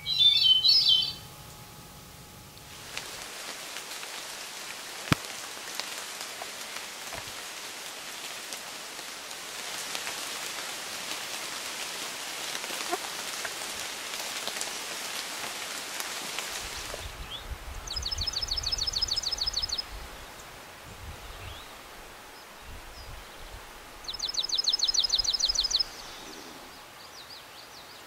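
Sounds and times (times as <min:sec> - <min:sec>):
rain falling on foliage: 0:02.5 - 0:28.0.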